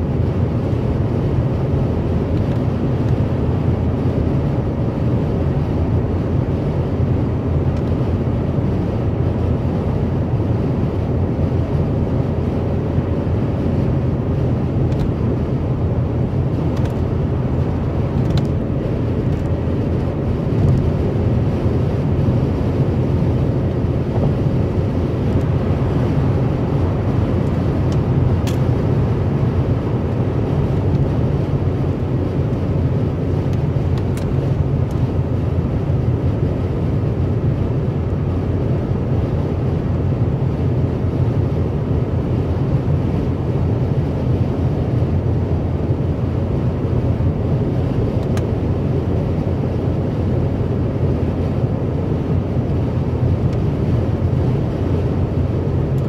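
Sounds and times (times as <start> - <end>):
car road rumble: 0.0 - 56.0.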